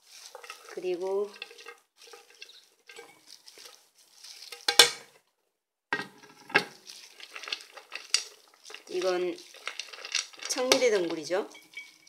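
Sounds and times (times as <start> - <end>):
dry herbs rustling: 0.0 - 5.2, 6.2 - 12.0.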